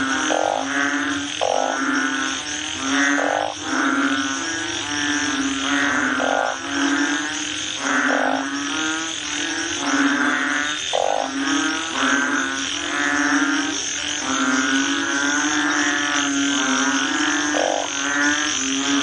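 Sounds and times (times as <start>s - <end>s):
bullfrogs moaning calls: 0.0s - 19.0s.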